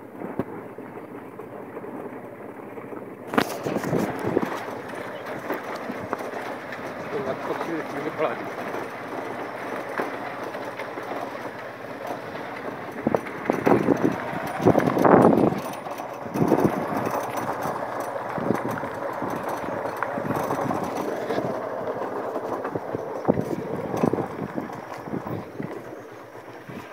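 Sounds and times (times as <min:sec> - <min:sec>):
footsteps on dirt track: 0:00.2 - 0:26.9.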